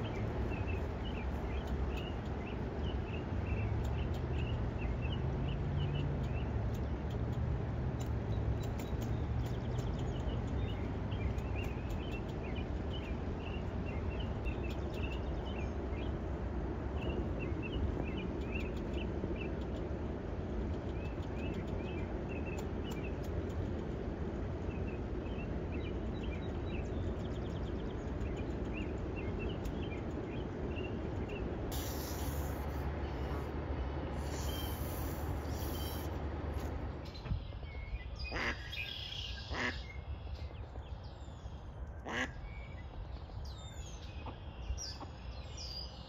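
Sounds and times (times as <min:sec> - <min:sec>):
low background rumble: 0:00.0 - 0:46.0
small birds chirping: 0:00.0 - 0:46.0.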